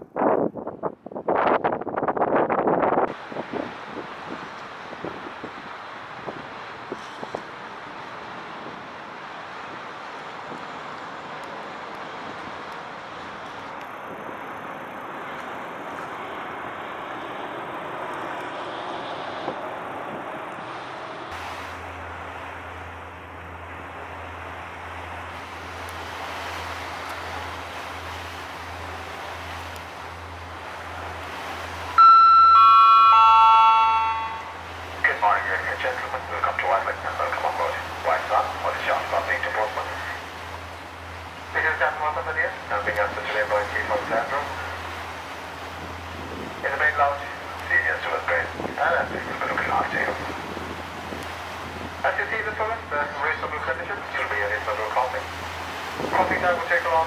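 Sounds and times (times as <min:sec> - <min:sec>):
wind: 0:00.0 - 0:57.0
engine noise: 0:05.7 - 0:57.0.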